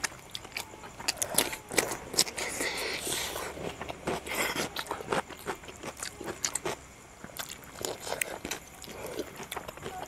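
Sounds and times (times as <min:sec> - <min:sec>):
wet chewing and lip smacks: 0:00.0 - 0:10.0.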